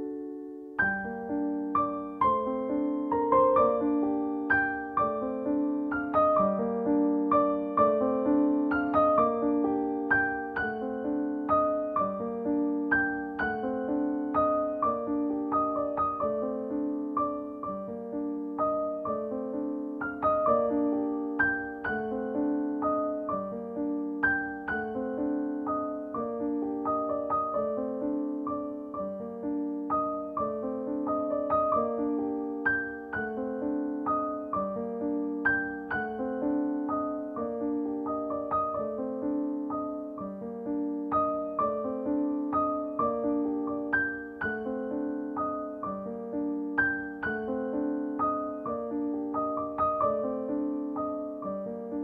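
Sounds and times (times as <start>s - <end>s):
flowing piano music: 0.0s - 52.0s.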